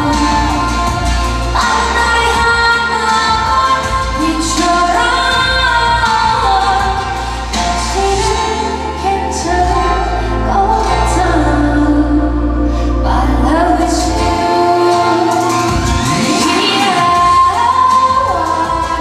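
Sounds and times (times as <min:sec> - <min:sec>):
backing band music: 0:00.0 - 0:12.0, 0:12.9 - 0:19.0
woman singing pop song: 0:00.0 - 0:19.0.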